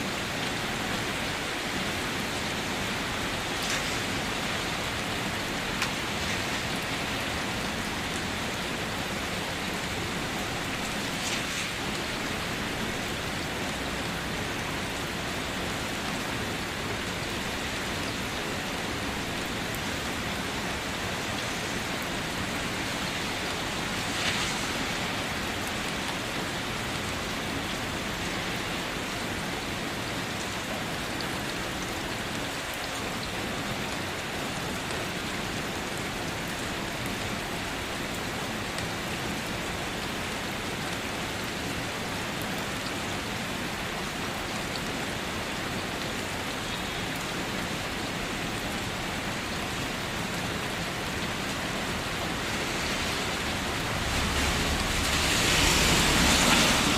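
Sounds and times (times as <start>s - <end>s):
rain spatter: 0.0s - 45.4s, 46.0s - 56.9s
steady rain falling: 0.0s - 56.9s.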